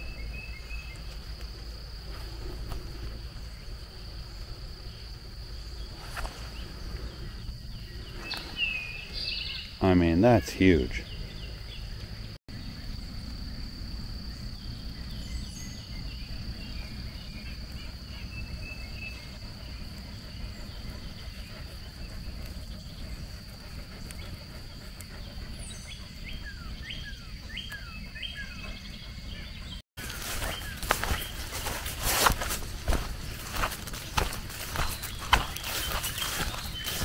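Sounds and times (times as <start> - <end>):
bird chirping: 0.0 - 37.0
high insect drone: 0.0 - 37.0.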